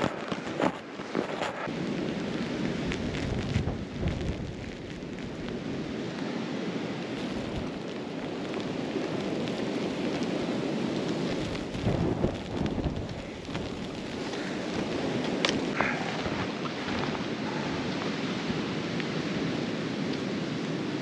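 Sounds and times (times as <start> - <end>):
wind buffeting microphone: 0.0 - 6.1, 7.0 - 19.7.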